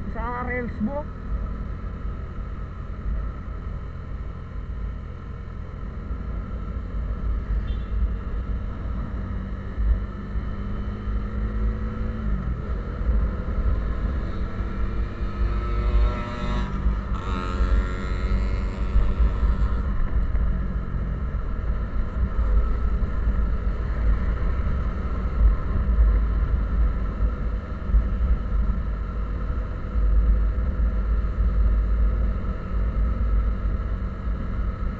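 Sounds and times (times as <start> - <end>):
road rumble: 0.0 - 34.9
vehicle engine running: 0.0 - 34.9.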